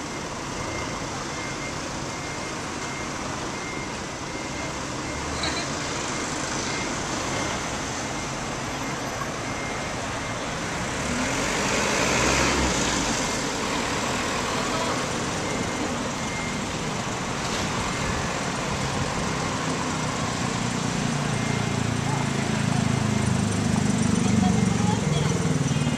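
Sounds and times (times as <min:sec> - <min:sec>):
road traffic noise: 0:00.0 - 0:25.9.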